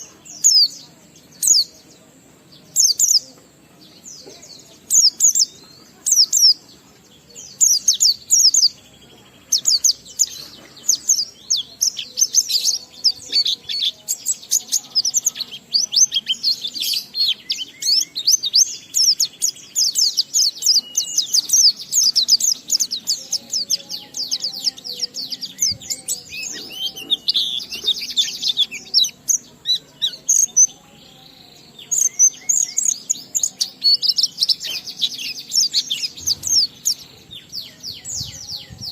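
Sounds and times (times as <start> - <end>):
bird chirping and trilling: 2.7 - 3.3, 4.0 - 38.9.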